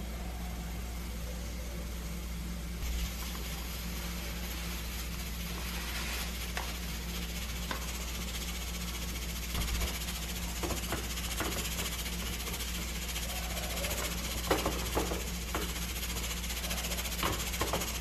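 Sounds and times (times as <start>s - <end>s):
low hum with light hiss: 0.0s - 18.0s.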